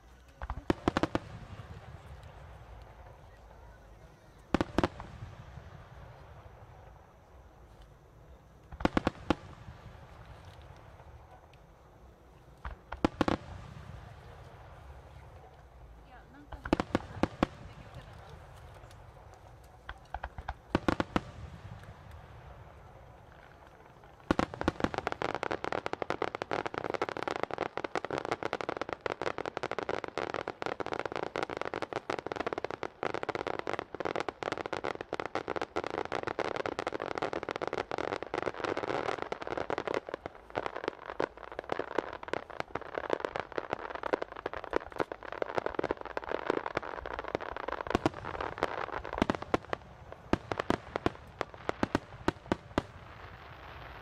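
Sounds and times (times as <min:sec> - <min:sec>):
fireworks crackling: 0:00.0 - 0:54.0
fireworks sharp bangs: 0:00.0 - 0:54.0.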